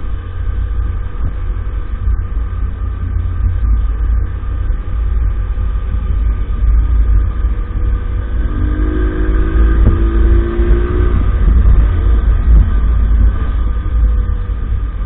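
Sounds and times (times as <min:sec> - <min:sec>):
moped engine running: 0:00.0 - 0:15.0
wind rumble on microphone: 0:00.0 - 0:15.0.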